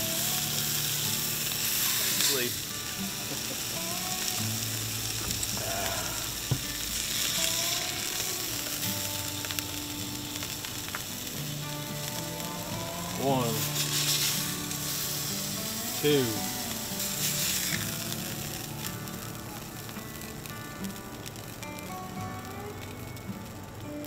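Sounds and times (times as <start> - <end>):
fish sizzling in a skillet: 0.0 - 24.0.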